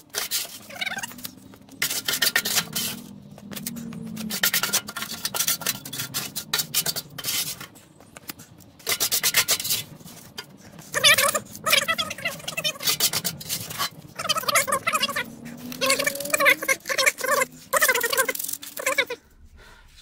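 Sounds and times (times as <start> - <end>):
concrete mix scraped on floor: 0.1 - 19.2.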